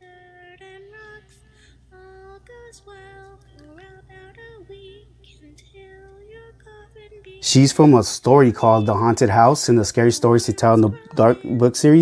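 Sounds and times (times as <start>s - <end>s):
low steady hum: 0.0s - 12.0s
person singing slow melody: 0.0s - 12.0s.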